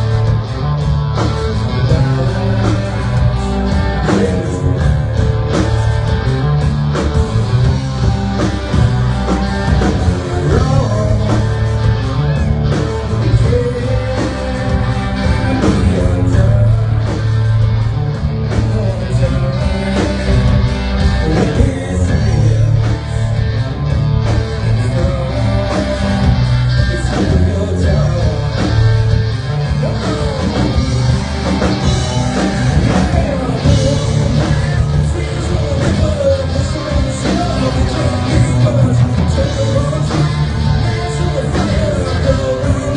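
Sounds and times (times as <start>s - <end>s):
electric guitar: 0.0s - 42.9s
live rock band playing: 0.0s - 42.9s
person singing: 1.3s - 5.3s, 8.4s - 17.6s, 18.4s - 42.9s.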